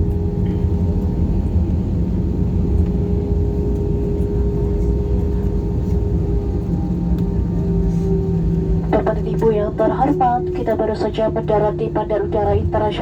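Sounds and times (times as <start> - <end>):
airliner cabin engine rumble: 0.0 - 13.0
constant hum: 0.0 - 13.0.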